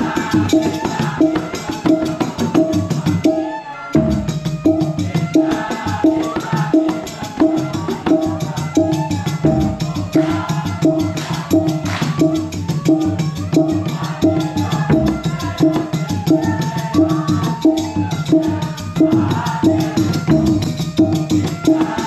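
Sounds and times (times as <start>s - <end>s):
drum rhythm: 0.0s - 3.4s, 4.0s - 22.0s
male chorus chanting: 0.0s - 22.0s.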